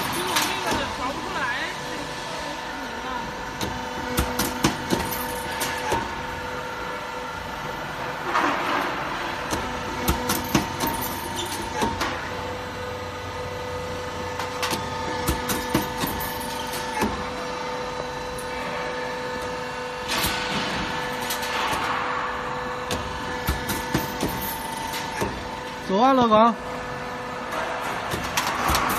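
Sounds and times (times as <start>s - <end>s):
machine humming: 0.0s - 28.9s.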